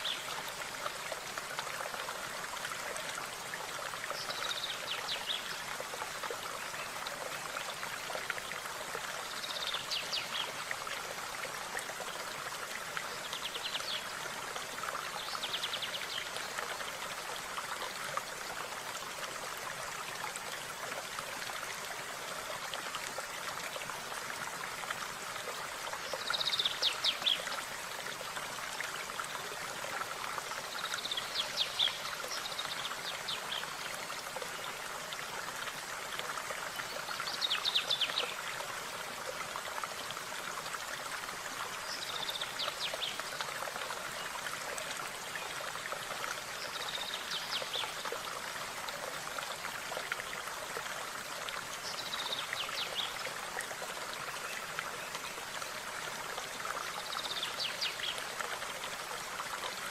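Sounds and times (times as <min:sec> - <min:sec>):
small stream flowing: 0:00.0 - 0:59.9.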